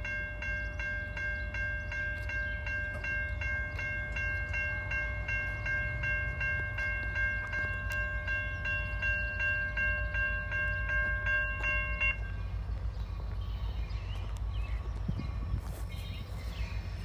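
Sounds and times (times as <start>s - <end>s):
crossing warning bell dinging: 0.0s - 14.9s
steady low rumble: 1.1s - 17.0s.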